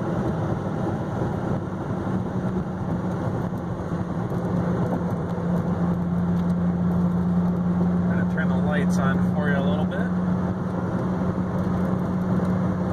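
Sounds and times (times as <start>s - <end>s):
car engine drone: 0.0s - 12.9s
tyre and road noise: 0.0s - 12.9s.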